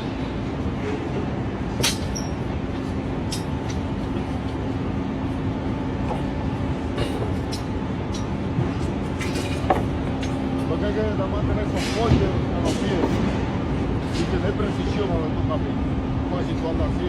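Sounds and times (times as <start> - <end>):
machinery rumble with hum: 0.0 - 17.0.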